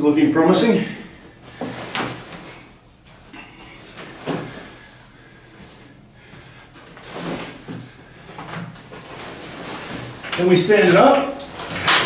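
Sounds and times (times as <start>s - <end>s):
rustling fabric: 1.1s - 12.0s.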